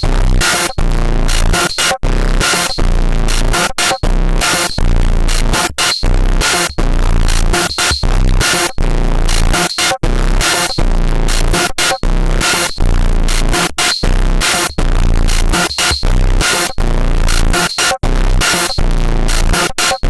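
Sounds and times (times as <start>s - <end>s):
electronic dance music: 0.0s - 20.0s.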